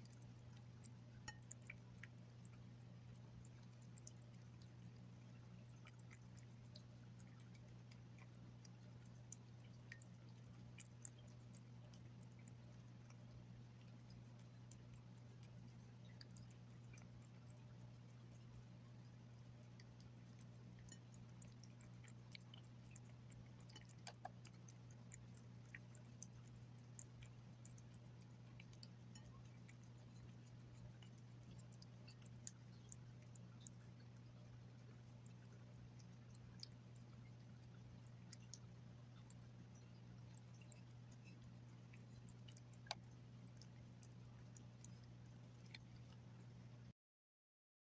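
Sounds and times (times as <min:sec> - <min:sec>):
cat chewing and licking: 0:00.0 - 0:46.9
low steady hum: 0:00.0 - 0:46.9.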